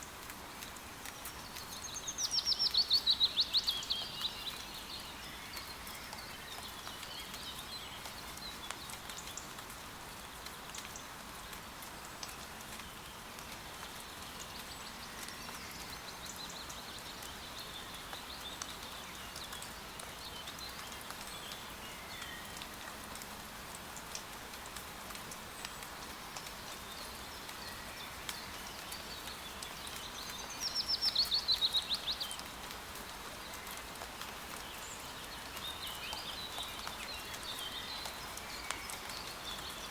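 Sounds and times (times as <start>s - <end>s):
rain falling through forest: 0.0s - 39.9s
water drips: 0.0s - 39.9s.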